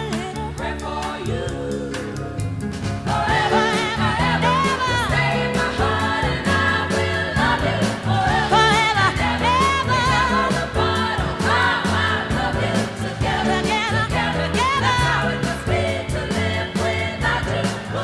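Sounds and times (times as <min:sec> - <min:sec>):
backing choir voices: 0:00.0 - 0:02.4, 0:03.0 - 0:18.0
bass and beat: 0:00.0 - 0:18.0.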